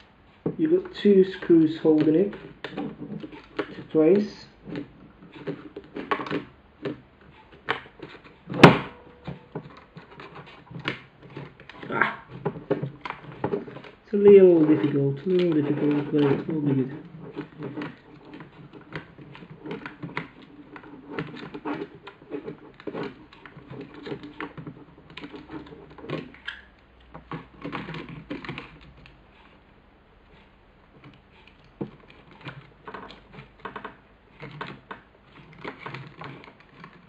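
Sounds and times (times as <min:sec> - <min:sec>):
hard plastic parts clicking: 0:00.0 - 0:29.7, 0:30.3 - 0:37.0.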